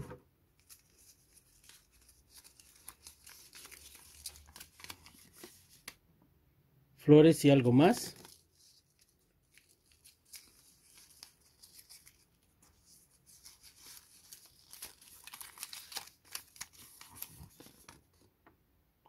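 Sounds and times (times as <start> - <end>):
paper rustling and crinkling: 0.6 - 6.0, 7.8 - 18.3.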